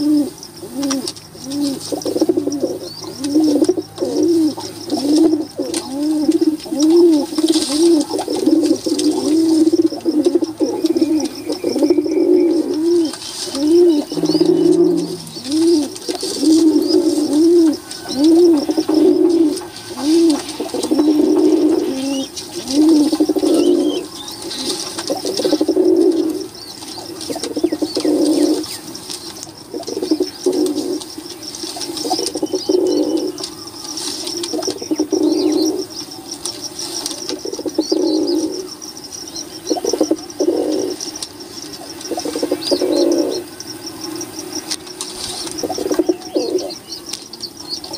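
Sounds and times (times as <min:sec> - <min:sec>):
high chirping: 0:00.0 - 0:47.9
pigeons cooing: 0:00.0 - 0:47.9.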